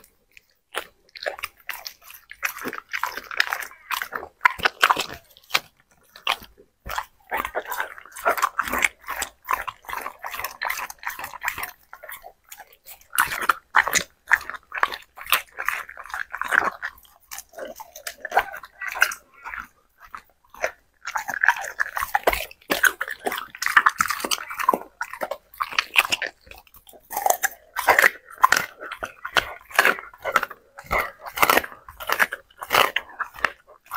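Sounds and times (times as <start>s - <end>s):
dog chewing meat: 0.0s - 33.9s.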